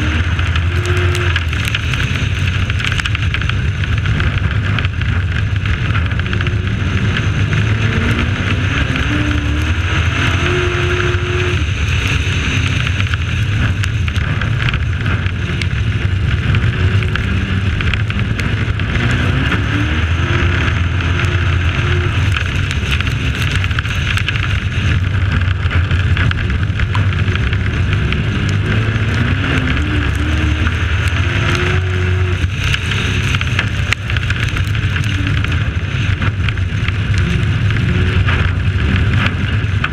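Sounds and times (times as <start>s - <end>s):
race truck engine revving: 0.0s - 39.9s
road noise: 0.0s - 39.9s
wind rush: 0.0s - 39.9s.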